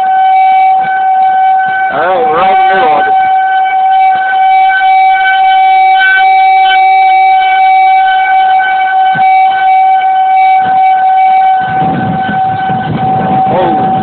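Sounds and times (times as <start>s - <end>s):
warning siren steady tone: 0.0s - 14.0s.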